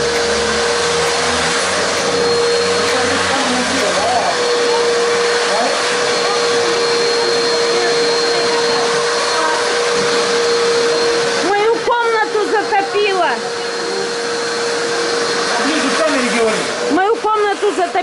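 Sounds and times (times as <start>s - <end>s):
vacuum sucking water: 0.0s - 18.0s.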